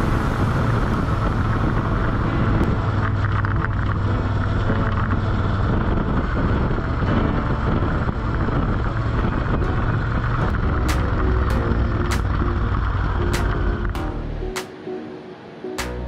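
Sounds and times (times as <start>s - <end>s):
wind rushing over microphone: 0.0s - 14.0s
motorcycle engine running: 0.0s - 14.2s
road noise: 0.0s - 16.0s.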